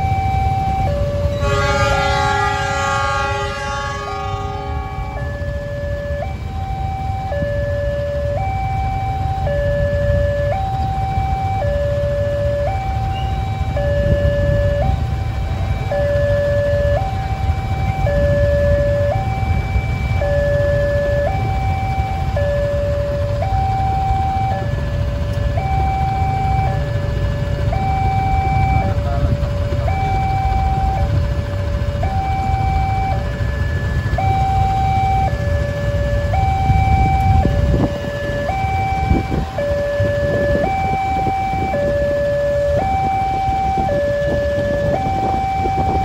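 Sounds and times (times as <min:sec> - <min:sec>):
idling engines rumble: 0:00.0 - 0:46.0
two-tone crossing alarm: 0:00.0 - 0:46.0.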